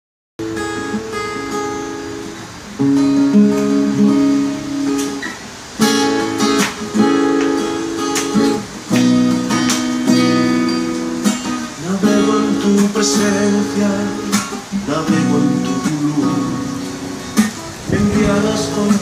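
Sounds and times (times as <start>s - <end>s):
acoustic guitar picking chords: 0.4s - 19.0s.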